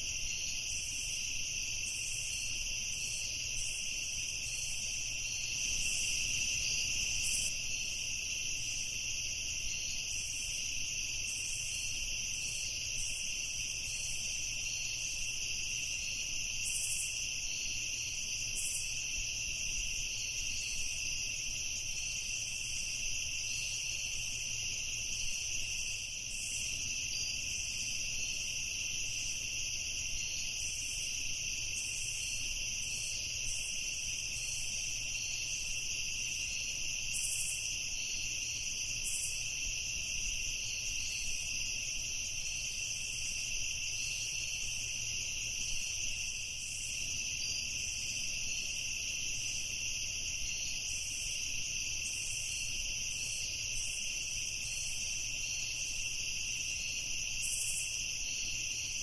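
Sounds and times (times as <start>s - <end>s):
insects trilling: 0.0s - 59.0s
irregular insect chirps: 0.1s - 59.0s.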